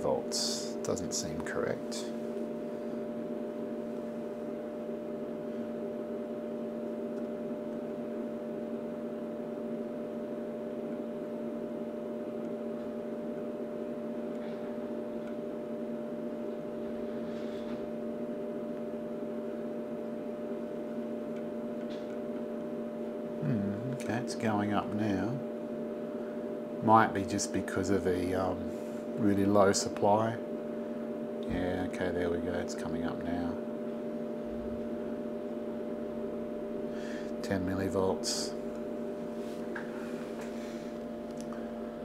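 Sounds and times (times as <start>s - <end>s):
electrical mains hum and buzz: 0.0s - 42.0s.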